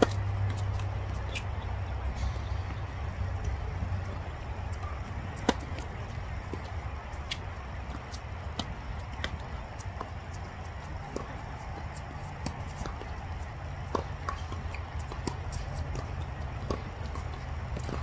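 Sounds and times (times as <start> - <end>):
tennis ball struck and bouncing: 0.0 - 1.5, 3.4 - 18.0.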